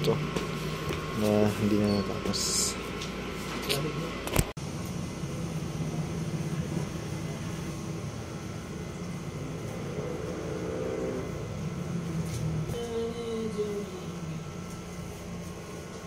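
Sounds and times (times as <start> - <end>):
faint hum: 0.0 - 16.0
low mechanical rumble: 0.0 - 16.0.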